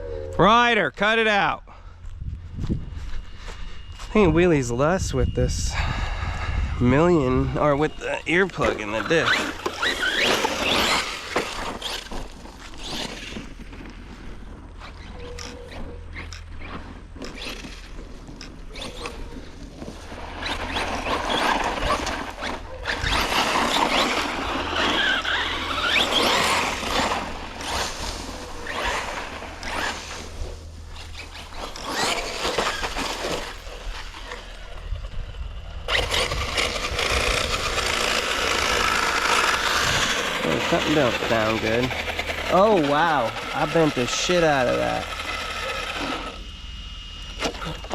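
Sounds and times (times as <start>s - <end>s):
tire noise on dirt: 0.0s - 47.9s
electric motor whine: 2.1s - 47.9s.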